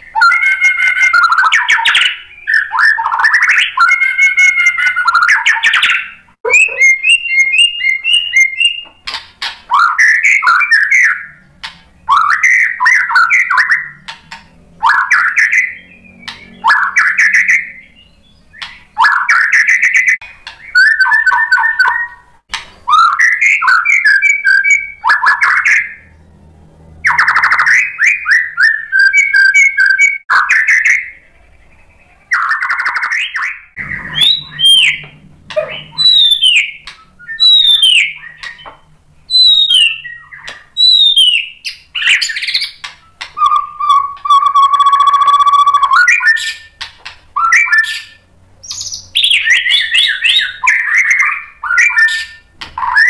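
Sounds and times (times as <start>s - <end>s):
bird singing whistles and trills: 0.0s - 11.4s, 12.0s - 14.2s, 14.8s - 22.3s, 22.9s - 26.2s, 27.0s - 53.0s.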